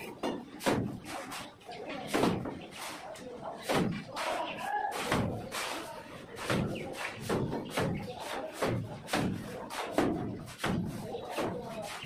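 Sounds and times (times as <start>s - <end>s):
shovels scraping mortar on concrete: 0.5s - 12.0s.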